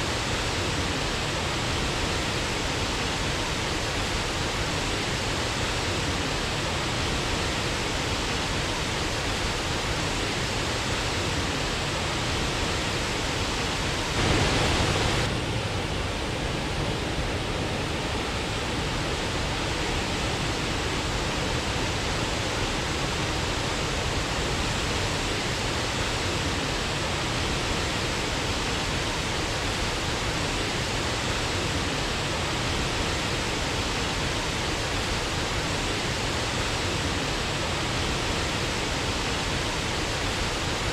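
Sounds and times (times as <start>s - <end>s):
waterfall roaring: 0.1s - 40.9s.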